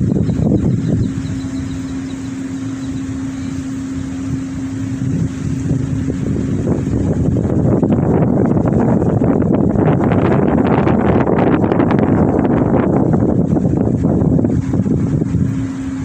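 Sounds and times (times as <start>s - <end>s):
vehicle engine humming: 0.0s - 16.0s
wind noise on microphone: 0.0s - 16.0s.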